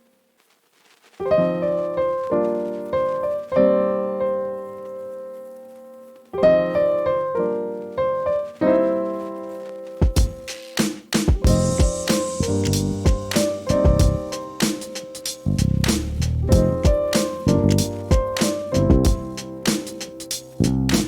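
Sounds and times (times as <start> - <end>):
piano chords: 1.2 - 21.0.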